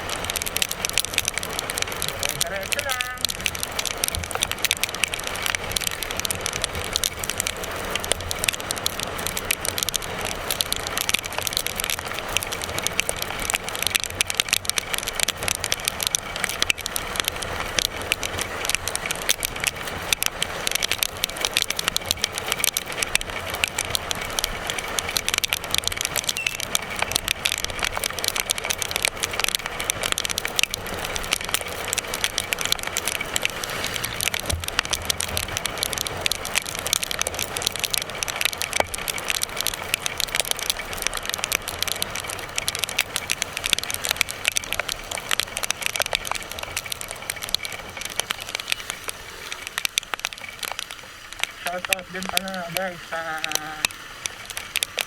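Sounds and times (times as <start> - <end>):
fine crackling: 0.0 - 55.0
road noise: 0.0 - 55.0.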